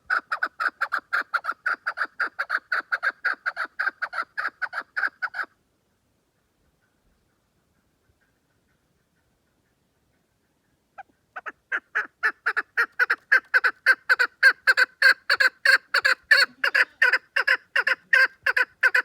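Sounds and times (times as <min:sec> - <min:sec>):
chukar partridge calling: 0:00.0 - 0:19.0.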